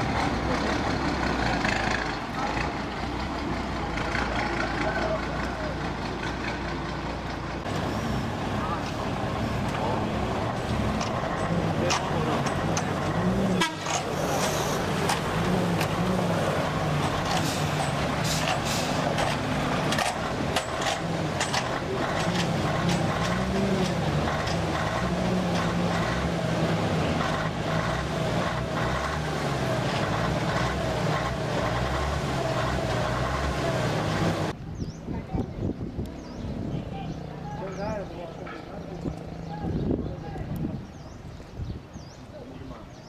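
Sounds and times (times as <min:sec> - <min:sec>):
truck engine running: 0:00.0 - 0:34.6.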